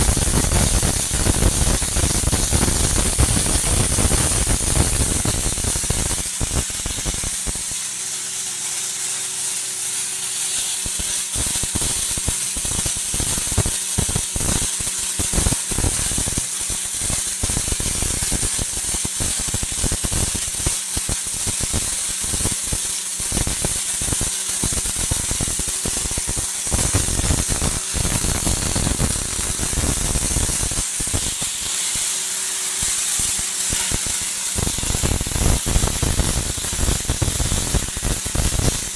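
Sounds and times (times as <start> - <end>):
welding arc hissing and crackling: 0.0 - 38.9.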